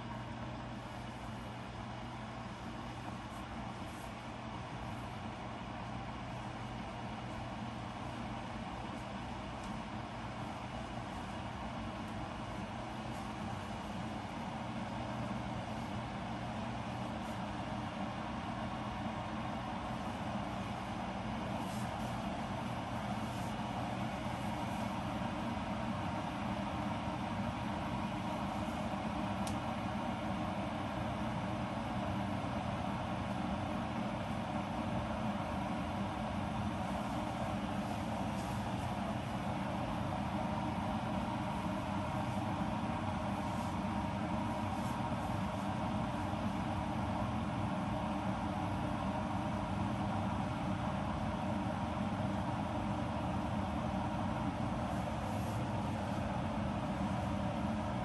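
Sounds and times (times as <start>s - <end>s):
electric kettle heating water: 0.0s - 58.0s.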